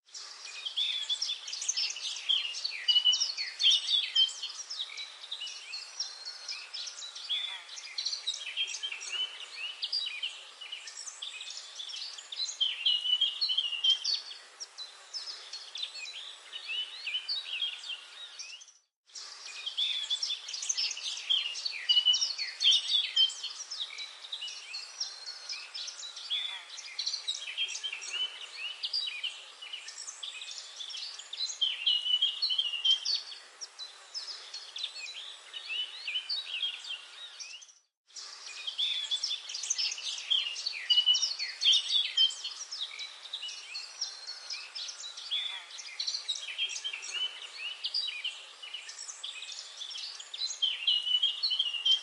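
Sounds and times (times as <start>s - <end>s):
birds chirping: 0.1s - 52.0s.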